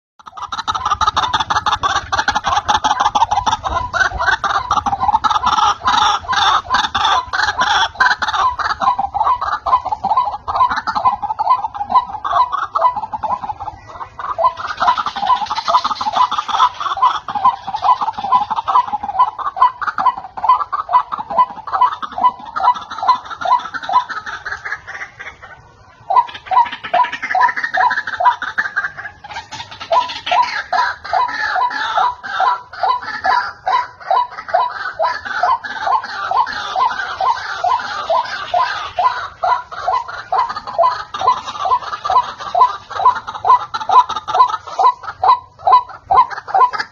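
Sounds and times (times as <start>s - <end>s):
waterhen cackling call: 0.2s - 46.9s.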